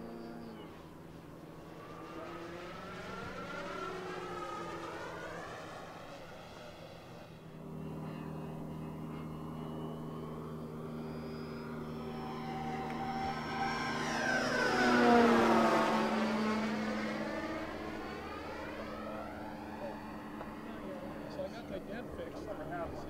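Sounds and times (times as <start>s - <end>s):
model plane propeller drone: 0.0s - 23.0s.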